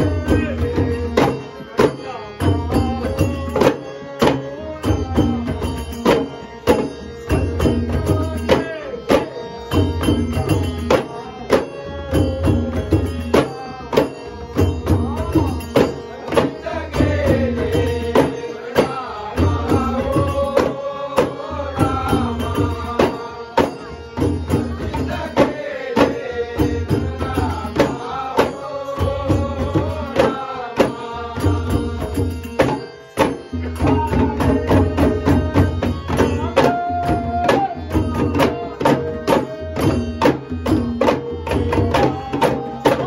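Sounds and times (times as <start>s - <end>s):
clay-pot drums beating: 0.0s - 43.0s.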